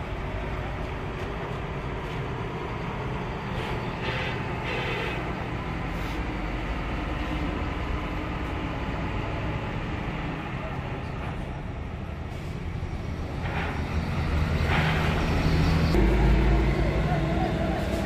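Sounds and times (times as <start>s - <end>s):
bus engine rumble: 0.0s - 18.0s.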